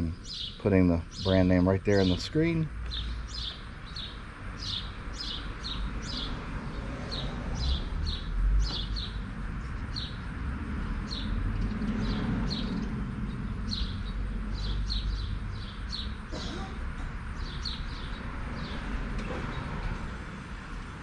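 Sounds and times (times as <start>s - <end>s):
bird chirping: 0.0s - 10.3s, 11.0s - 16.8s, 17.4s - 19.7s.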